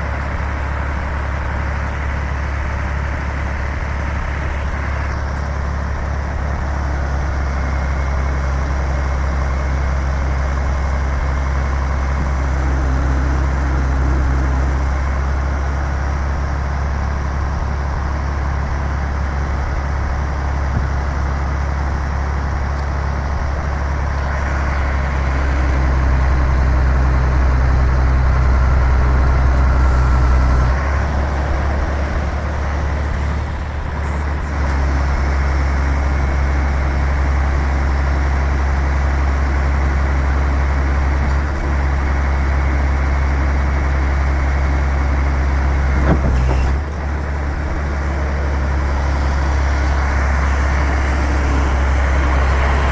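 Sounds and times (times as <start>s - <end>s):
truck diesel engine humming: 0.0s - 52.9s.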